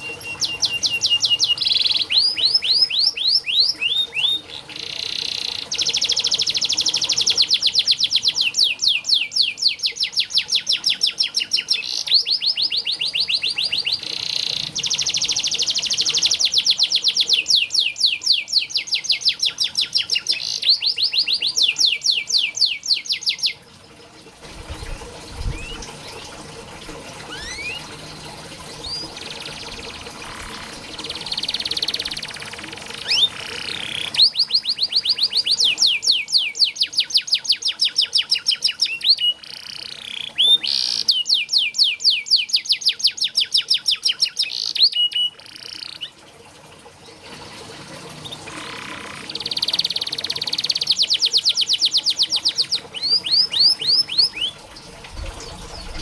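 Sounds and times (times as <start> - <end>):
canary singing trills: 0.0 - 23.6, 24.8 - 26.3, 27.3 - 46.2, 48.2 - 54.6, 55.2 - 56.0.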